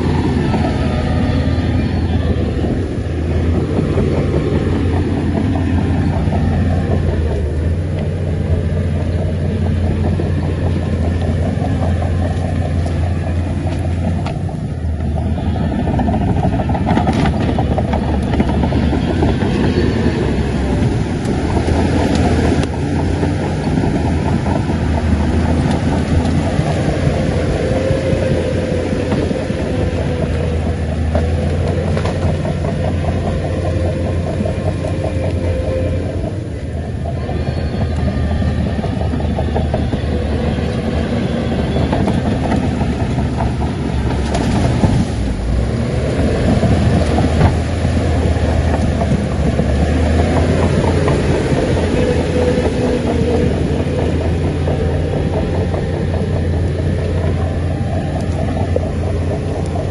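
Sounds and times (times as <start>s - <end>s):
bulldozer diesel engine running: 0.0s - 59.9s
steel tracks clanking: 0.0s - 59.9s.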